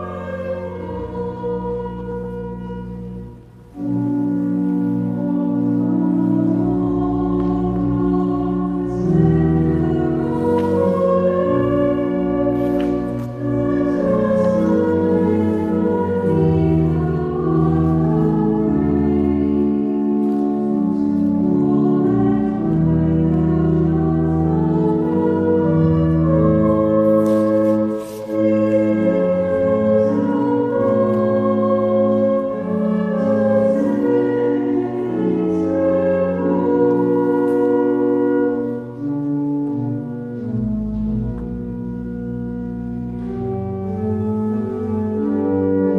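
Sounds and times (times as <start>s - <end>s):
slow church music chords: 0.0s - 45.9s.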